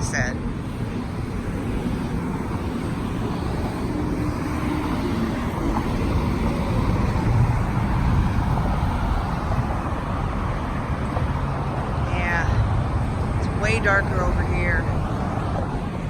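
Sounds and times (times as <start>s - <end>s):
passing cars rumble: 0.0s - 16.0s.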